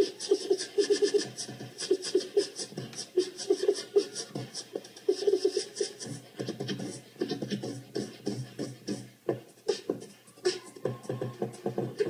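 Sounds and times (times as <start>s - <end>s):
beatboxing: 0.0s - 12.0s.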